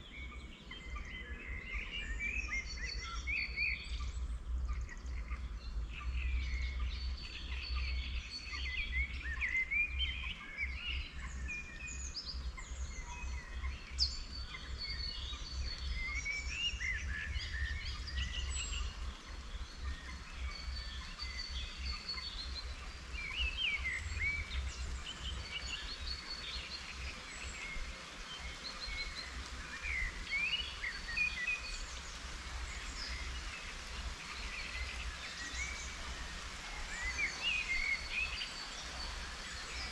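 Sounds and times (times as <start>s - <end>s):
light rain hiss: 0.0s - 39.9s
songbirds chirping and singing: 0.0s - 39.9s.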